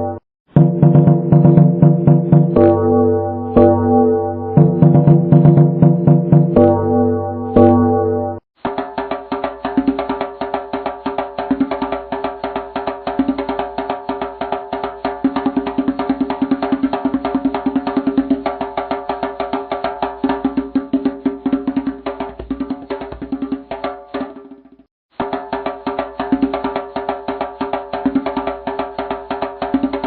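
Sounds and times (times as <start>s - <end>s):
music with clicking percussion beat: 0.5s - 3.0s, 4.6s - 6.8s, 8.6s - 30.0s.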